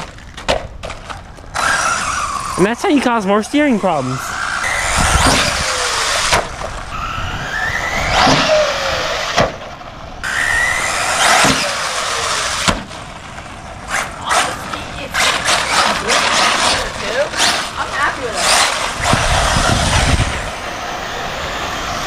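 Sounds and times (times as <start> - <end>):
electric motor whine: 1.5 - 12.7, 14.0 - 22.0.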